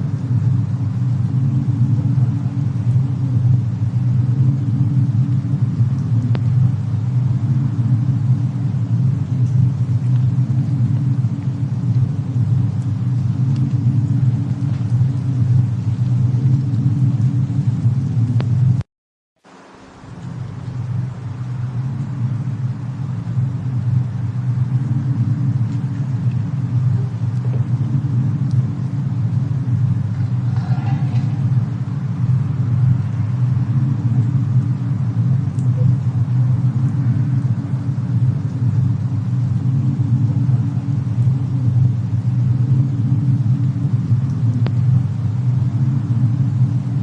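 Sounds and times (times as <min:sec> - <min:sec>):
faint fire crackles: 0:00.0 - 0:18.8, 0:19.4 - 0:47.0
low rumble: 0:00.0 - 0:18.9, 0:19.5 - 0:47.0.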